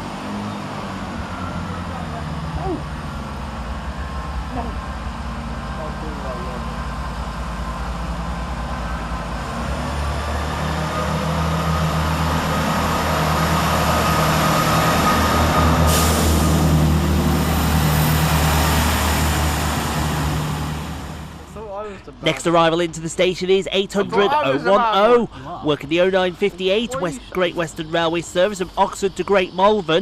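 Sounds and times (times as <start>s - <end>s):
diesel train engines droning: 0.0s - 30.0s.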